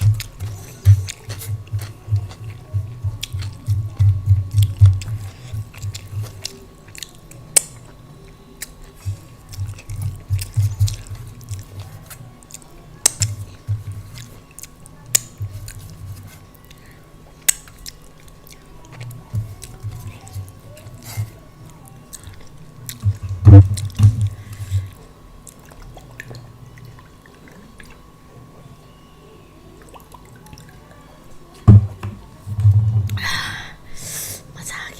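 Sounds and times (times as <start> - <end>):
mouth clicks and crunches: 0.0 - 28.7
close chewing of food: 0.0 - 29.0.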